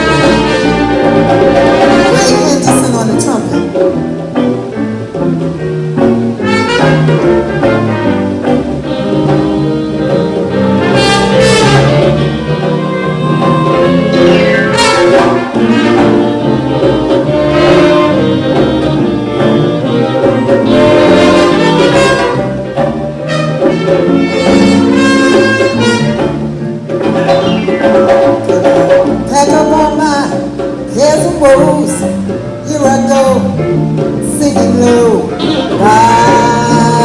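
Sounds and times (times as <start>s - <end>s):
jazz big band playing swing: 0.0s - 37.0s.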